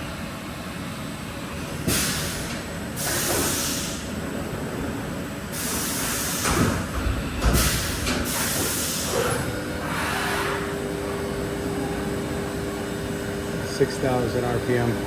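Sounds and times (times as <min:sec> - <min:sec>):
machining centre running: 0:00.0 - 0:15.0.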